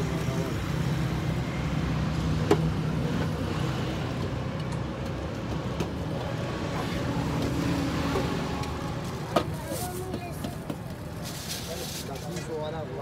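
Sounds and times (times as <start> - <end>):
street noise rumble: 0.0 - 13.0.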